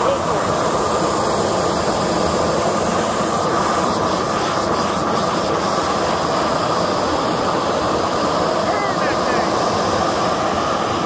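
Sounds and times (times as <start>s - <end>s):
propane torch rushing flame: 0.0s - 11.0s.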